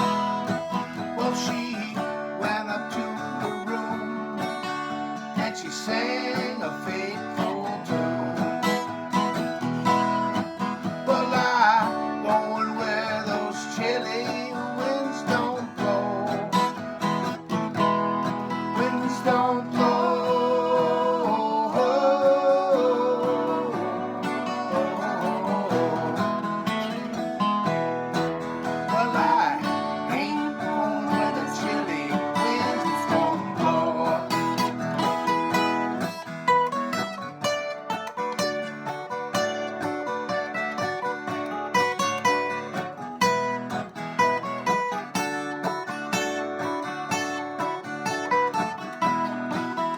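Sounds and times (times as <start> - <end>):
acoustic guitar strumming chords: 0.0 - 49.9.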